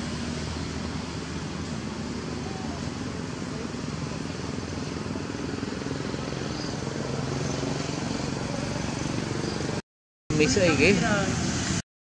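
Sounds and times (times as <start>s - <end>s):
engine running with low hum: 0.0s - 11.8s.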